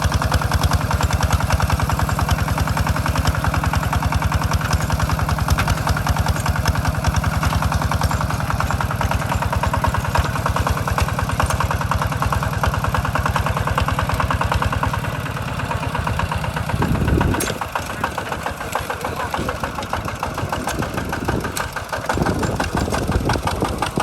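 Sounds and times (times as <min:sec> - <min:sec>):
diesel tractor engine chugging: 0:00.0 - 0:24.0.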